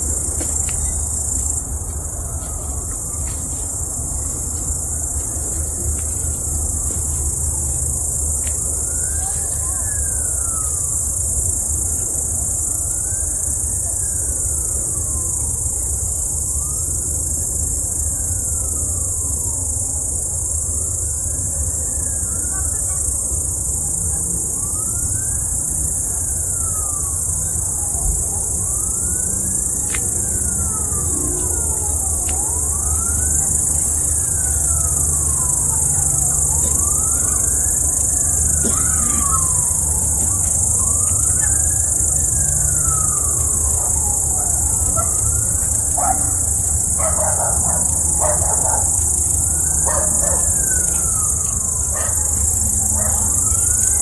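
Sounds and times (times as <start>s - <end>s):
wailing siren: 0.0s - 54.0s.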